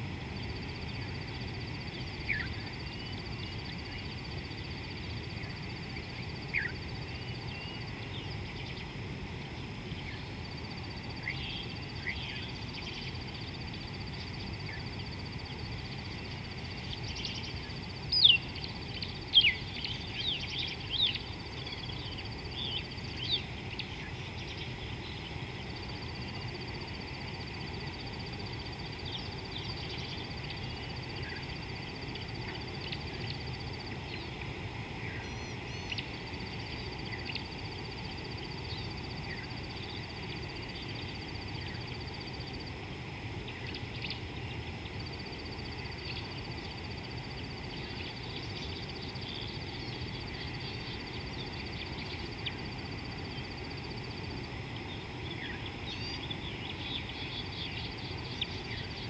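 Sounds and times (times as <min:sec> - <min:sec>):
insect trill: 0:00.0 - 0:59.0.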